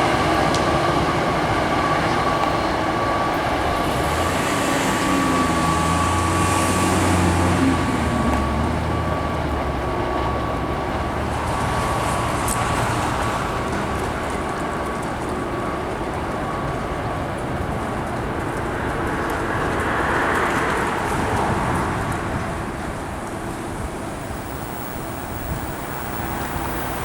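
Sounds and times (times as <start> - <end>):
thin steady whine: 0.0 - 27.0
train rumbling on rails: 0.0 - 27.0.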